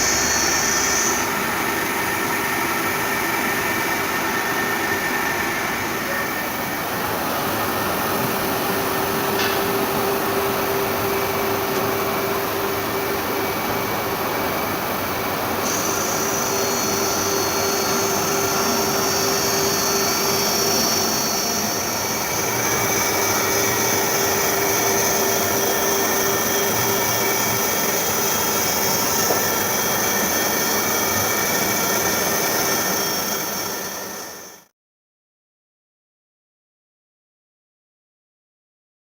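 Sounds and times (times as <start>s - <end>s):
grinding machine running: 0.0s - 34.7s.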